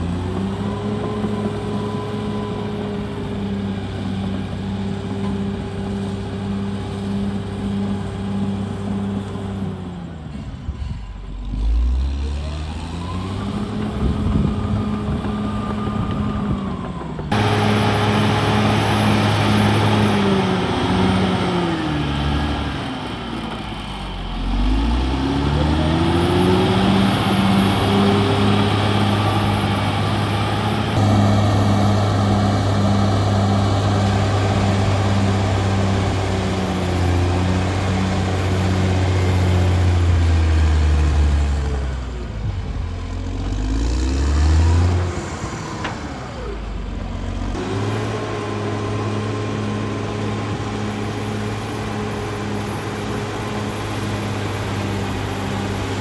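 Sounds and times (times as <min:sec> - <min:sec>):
bulldozer diesel engine running hard: 0:00.0 - 0:56.0.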